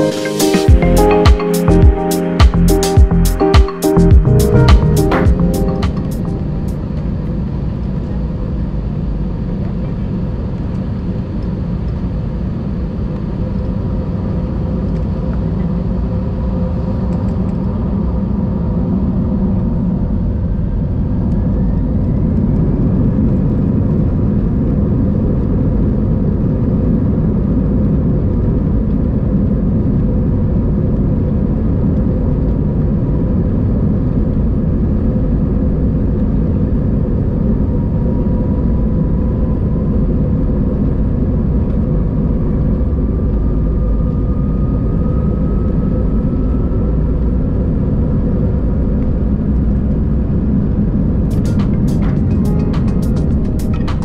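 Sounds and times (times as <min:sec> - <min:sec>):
jet engine rumble and hum: 0:06.4 - 0:54.0.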